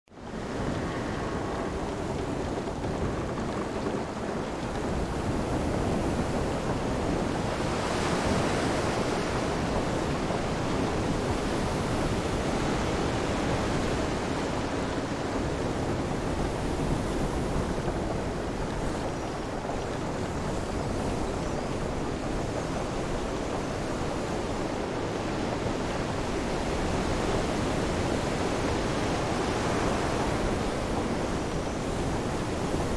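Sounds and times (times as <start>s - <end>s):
steady wind: 0.1s - 32.9s
surf: 0.2s - 32.9s.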